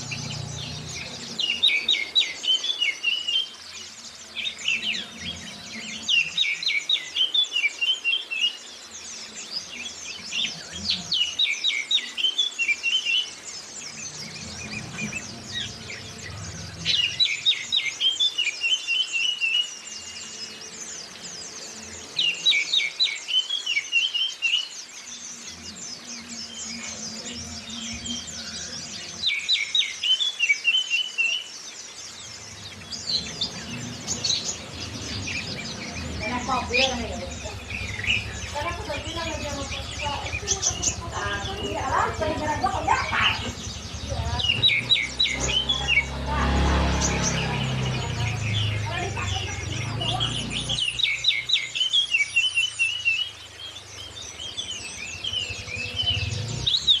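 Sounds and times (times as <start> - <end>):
birds chattering song: 0.0 - 57.0.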